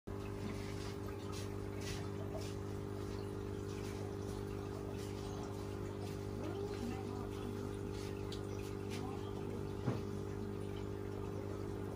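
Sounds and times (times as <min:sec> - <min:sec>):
steady low hum: 0:00.1 - 0:11.9
water trickling and dripping: 0:00.1 - 0:11.9.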